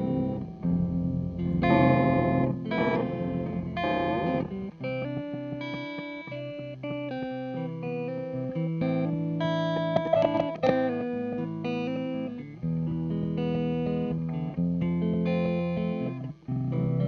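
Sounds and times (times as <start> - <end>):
electric guitar with delay effect: 0.0 - 17.0.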